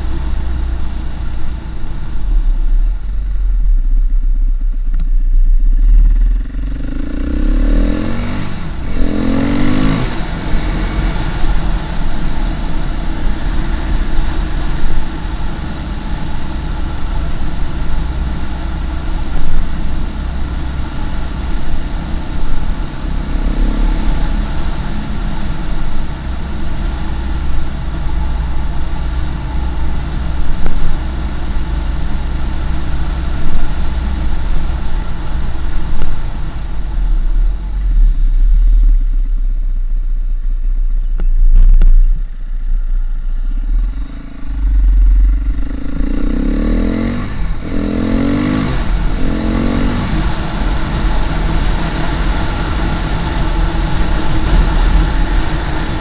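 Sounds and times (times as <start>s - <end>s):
low rumble: 0.0s - 56.0s
motorcycle engine running: 0.0s - 56.0s.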